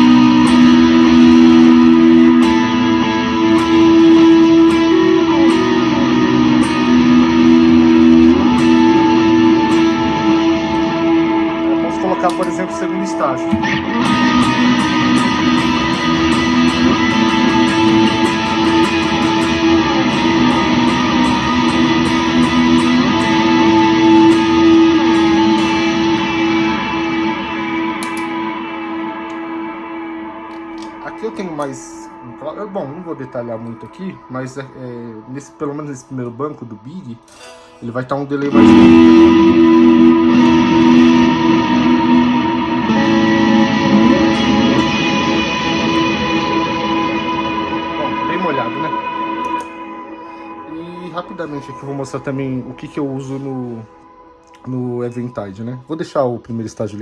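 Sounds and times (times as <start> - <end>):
electric guitar with reverb: 0.0 - 57.0.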